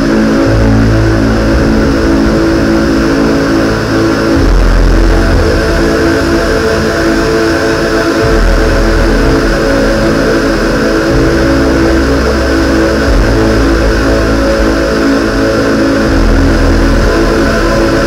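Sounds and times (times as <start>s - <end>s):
deep synth bass note: 0.0s - 18.0s
droning synthesizer chord: 0.0s - 18.0s.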